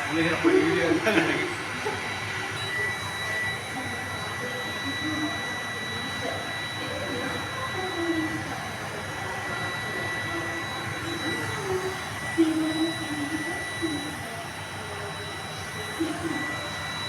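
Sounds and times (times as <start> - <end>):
mechanical whir with high whine: 0.0 - 17.0.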